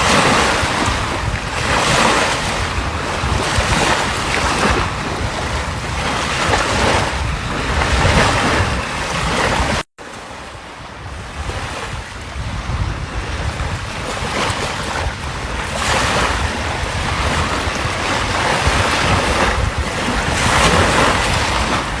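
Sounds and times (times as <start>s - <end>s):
sea waves washing on shore: 0.0s - 22.0s
wind buffeting microphone: 0.0s - 22.0s.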